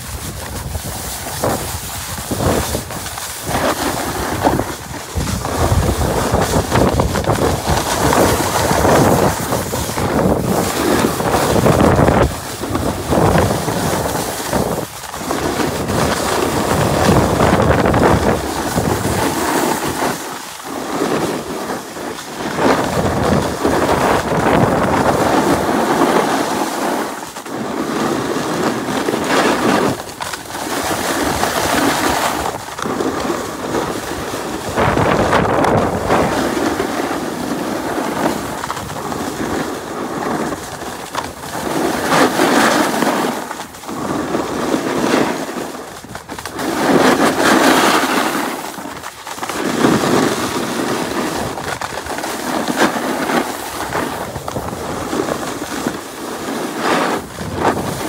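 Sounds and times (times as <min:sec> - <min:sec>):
snowboard scraping over snow: 0:00.0 - 0:58.0
wind on microphone: 0:00.0 - 0:58.0.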